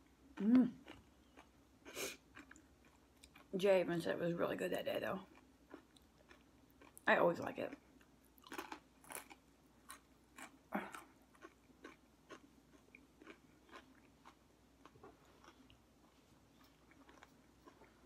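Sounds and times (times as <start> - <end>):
person chewing food: 0.0 - 3.5, 5.2 - 7.0, 7.7 - 18.0.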